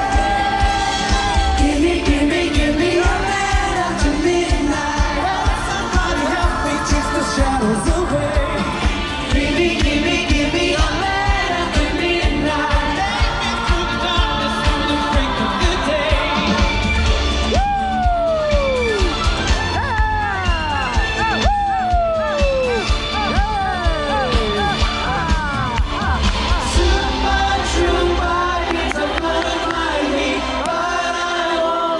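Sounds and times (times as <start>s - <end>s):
person singing: 0.0s - 19.2s, 19.8s - 31.9s
steady drum beat: 0.0s - 31.3s
pop band playing: 0.0s - 31.9s.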